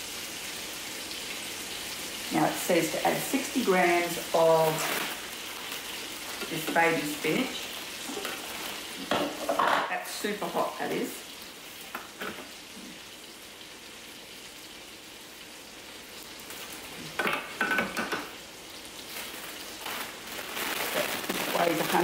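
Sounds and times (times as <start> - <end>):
chicken sizzling in pan: 0.0 - 22.0.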